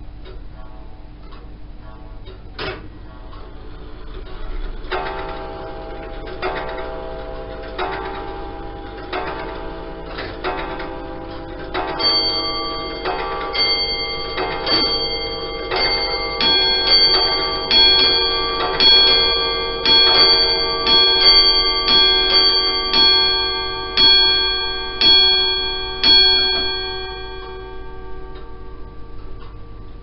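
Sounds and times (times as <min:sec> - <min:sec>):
clock bells striking: 0:02.7 - 0:30.0.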